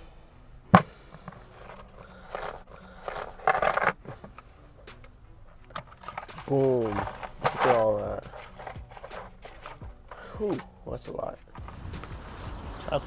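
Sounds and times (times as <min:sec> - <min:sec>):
box scraping and rustling: 0:00.7 - 0:12.2.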